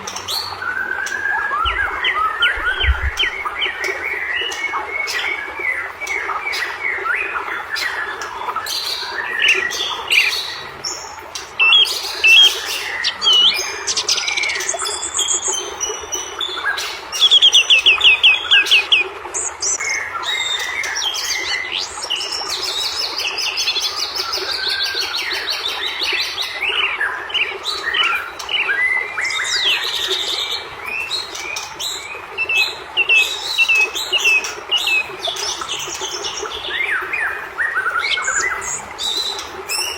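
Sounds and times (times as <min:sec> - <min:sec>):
songbird whistling and chirping: 0:00.1 - 0:39.9.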